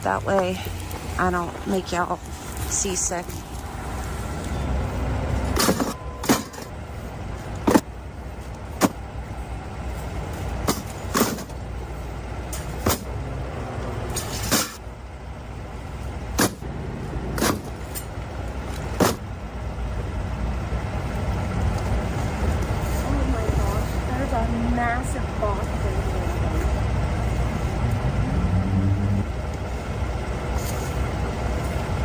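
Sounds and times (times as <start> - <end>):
low vehicle rumble: 0.0 - 32.0.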